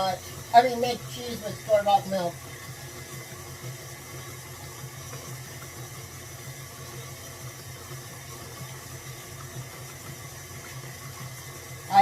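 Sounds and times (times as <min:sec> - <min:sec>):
stand mixer motor humming: 0:00.0 - 0:12.0.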